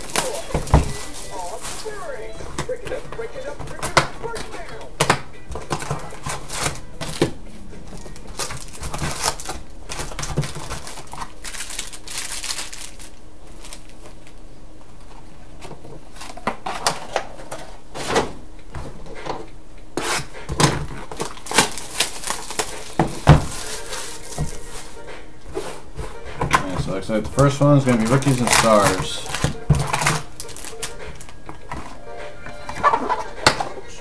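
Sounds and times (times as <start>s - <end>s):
foil packs crinkling: 0.0s - 17.9s, 20.0s - 32.0s.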